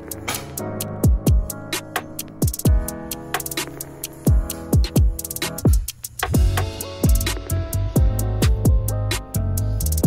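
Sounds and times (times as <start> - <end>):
electronic pop music: 0.0 - 10.0.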